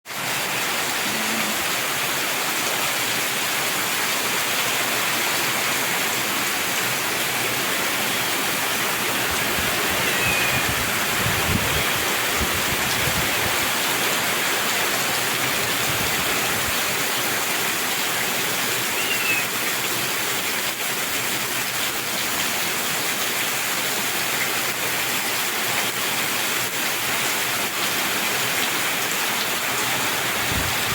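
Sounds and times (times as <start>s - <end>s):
heavy rain pouring: 0.1s - 30.9s.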